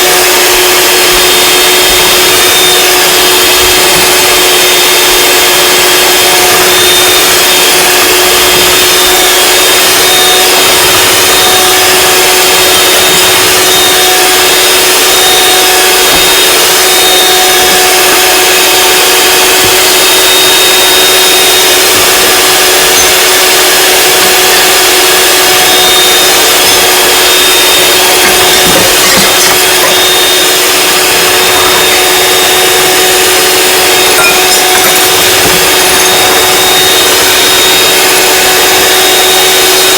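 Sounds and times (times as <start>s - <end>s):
electric mixer motor hum: 0.0s - 39.9s.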